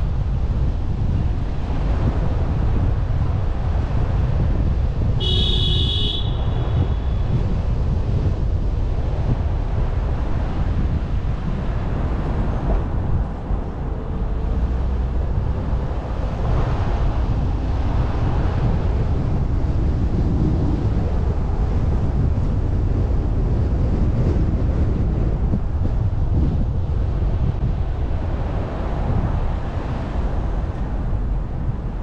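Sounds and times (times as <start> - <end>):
car road rumble: 0.0 - 32.0
wind noise on microphone: 0.0 - 32.0.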